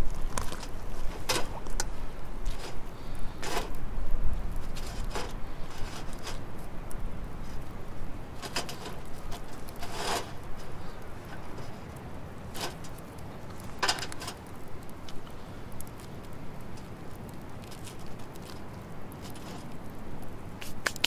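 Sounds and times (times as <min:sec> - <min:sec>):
wood fire crackling: 0:00.0 - 0:21.0
food scraping on grill: 0:00.3 - 0:14.5, 0:15.1 - 0:21.0.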